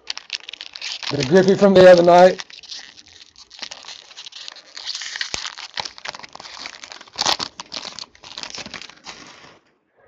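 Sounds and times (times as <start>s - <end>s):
cards and plastic packaging crinkling: 0.0s - 9.7s.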